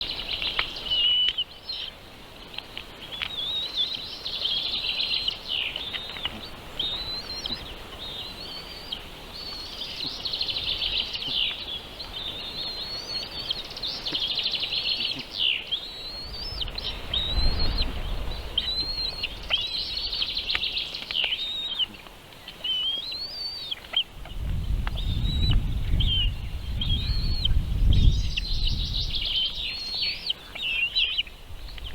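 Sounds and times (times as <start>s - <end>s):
baby birds chirping: 0.0s - 2.0s, 2.6s - 31.9s.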